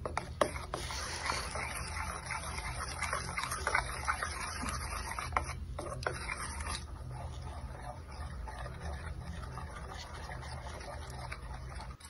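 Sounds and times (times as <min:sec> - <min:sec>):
spoon scraping glass bowl: 0:00.0 - 0:12.0
spoon stirring thick batter: 0:00.0 - 0:12.0.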